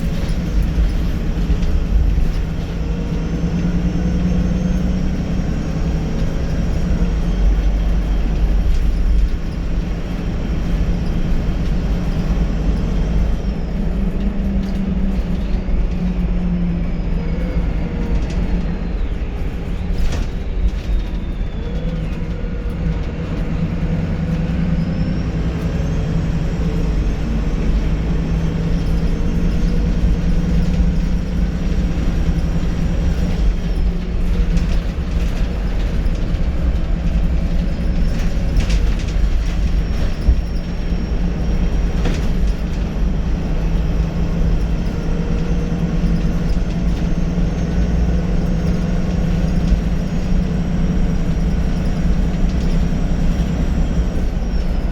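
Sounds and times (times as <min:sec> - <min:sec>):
bus engine drone: 0:00.0 - 0:54.9.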